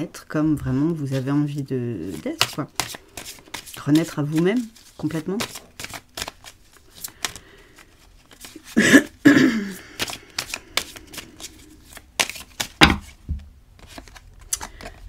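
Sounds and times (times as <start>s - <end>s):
cards being shuffled: 0.7s - 15.0s.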